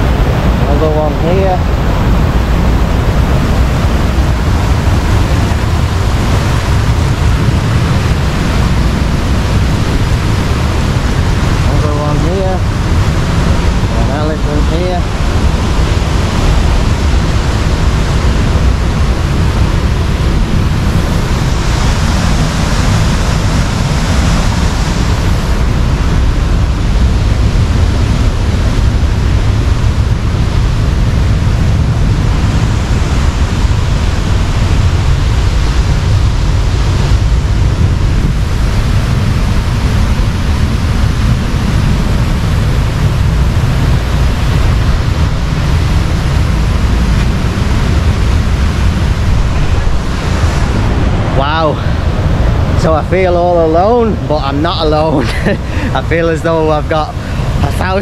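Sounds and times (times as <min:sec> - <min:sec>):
roaring river and waterfall: 0:00.0 - 0:58.0.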